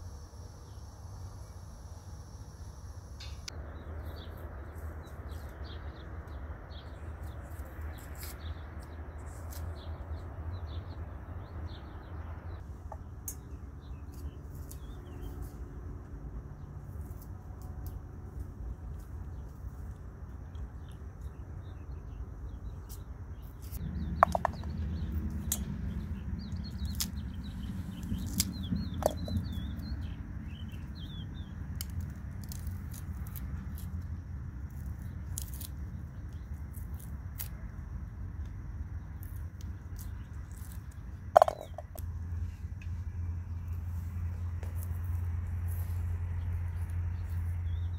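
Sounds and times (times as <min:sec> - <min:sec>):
low steady hum: 0:00.0 - 0:47.9
garlic being peeled with a knife: 0:03.2 - 0:11.6, 0:12.2 - 0:47.9
small birds chirping: 0:03.2 - 0:15.8, 0:16.5 - 0:37.8, 0:38.4 - 0:47.9.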